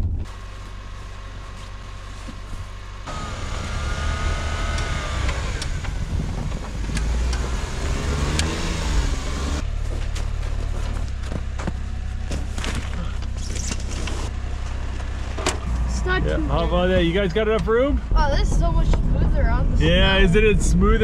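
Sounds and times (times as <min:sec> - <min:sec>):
tracked truck engine: 0:00.0 - 0:21.0.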